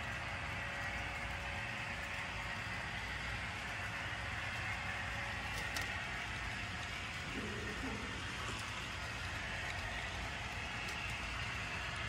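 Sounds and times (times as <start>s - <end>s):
faint steady hum: 0.0s - 12.0s
model train motors whirring: 0.0s - 12.0s.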